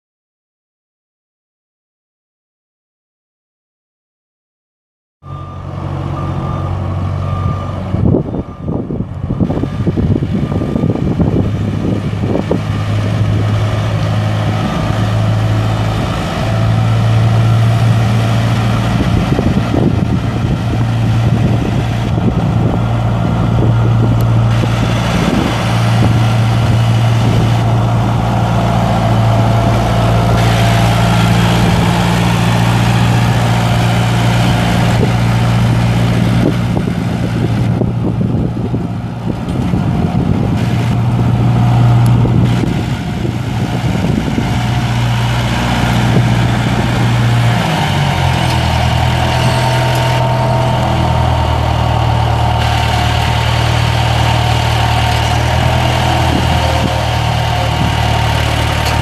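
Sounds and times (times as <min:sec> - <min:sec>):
tractor diesel engine running: 0:05.2 - 0:59.0.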